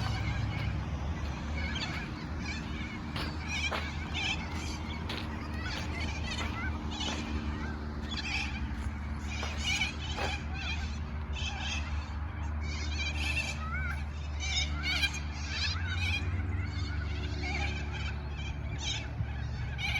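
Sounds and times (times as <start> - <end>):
parrots squawking: 0.0 - 12.0, 12.6 - 19.9
steady low hum: 0.0 - 19.9.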